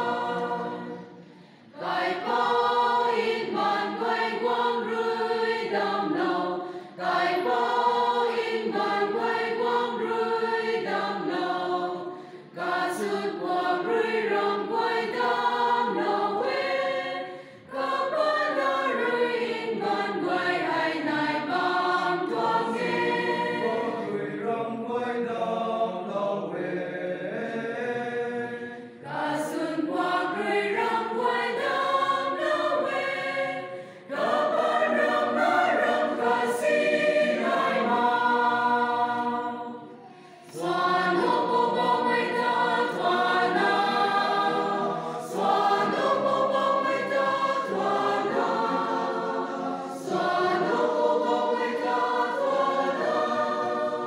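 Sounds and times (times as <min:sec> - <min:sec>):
women's choir singing: 0:00.0 - 0:54.0.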